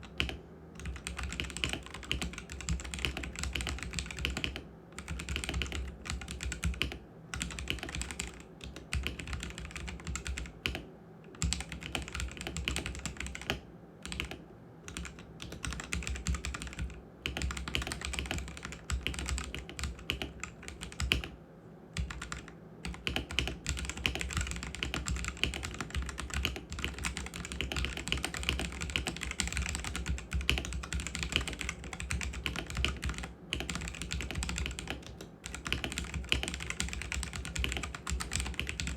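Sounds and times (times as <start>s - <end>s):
typing on mechanical keyboard: 0.0s - 10.8s, 11.4s - 21.4s, 22.0s - 38.9s.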